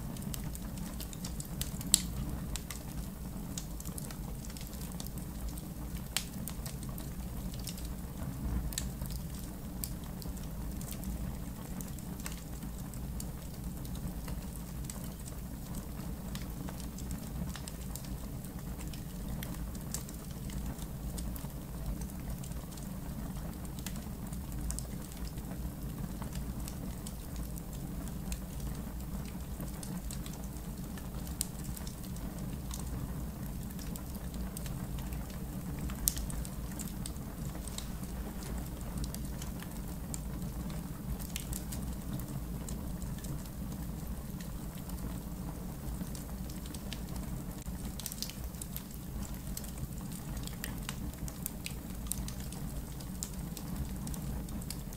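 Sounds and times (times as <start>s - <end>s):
campfire crackling: 0.0s - 54.9s.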